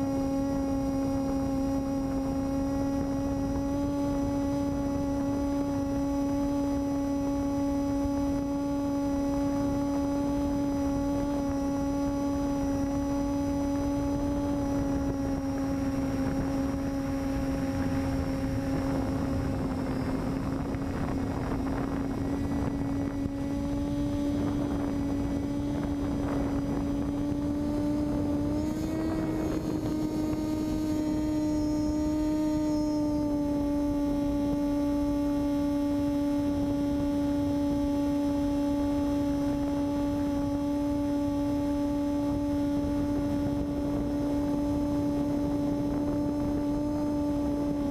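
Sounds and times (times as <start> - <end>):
electric motor and propeller whine: 0.0 - 47.9.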